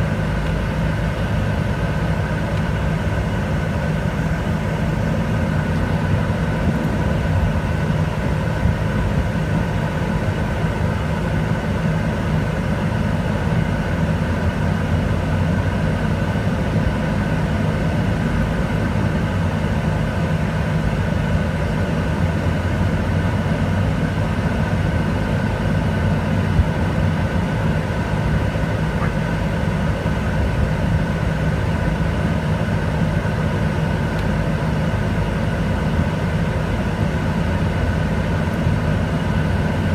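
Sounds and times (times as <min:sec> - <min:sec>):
engine hum with low rumble: 0:00.0 - 0:39.9.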